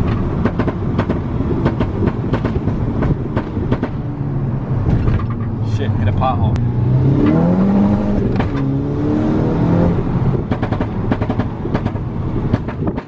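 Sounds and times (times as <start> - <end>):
exhaust crackles and pops: 0.0 - 4.1, 4.8 - 8.7, 10.2 - 13.0
car engine revving: 0.0 - 13.0.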